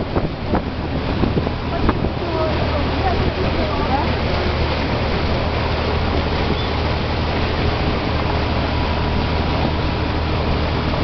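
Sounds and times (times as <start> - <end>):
boat engine droning: 0.0 - 11.0
water rushing: 0.0 - 11.0.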